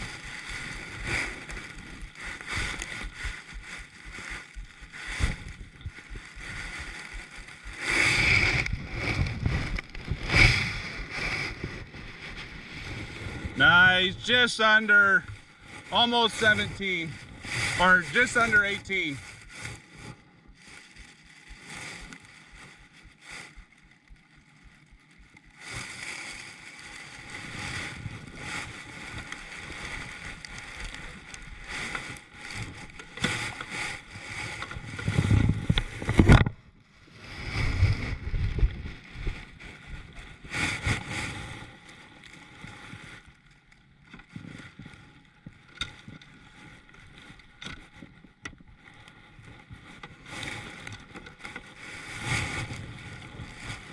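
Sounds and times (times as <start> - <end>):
rustling: 0.0 - 53.9
water sounds: 0.0 - 53.9.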